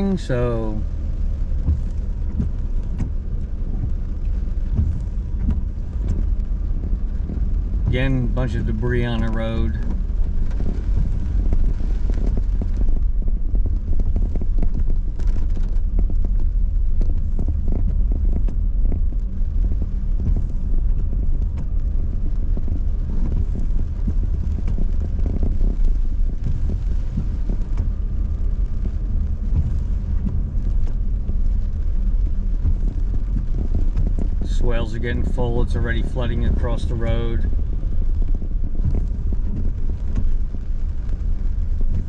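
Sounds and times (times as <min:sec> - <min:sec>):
engine and tyres rumbling: 0:00.0 - 0:42.0.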